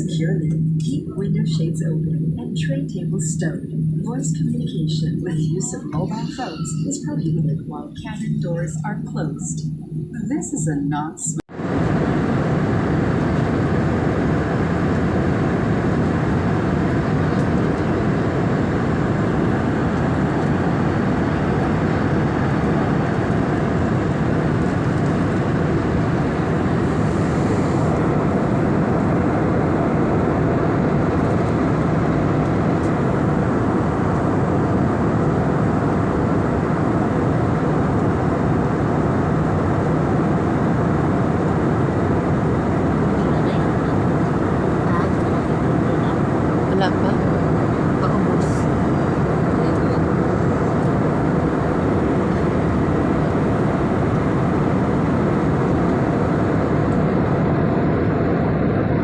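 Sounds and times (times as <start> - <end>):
airliner cabin engine noise: 0.0 - 59.0.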